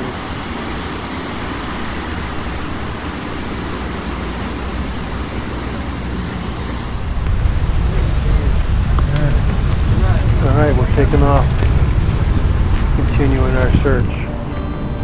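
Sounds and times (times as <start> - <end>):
surf breaking on rocky shore: 0.0 - 14.0.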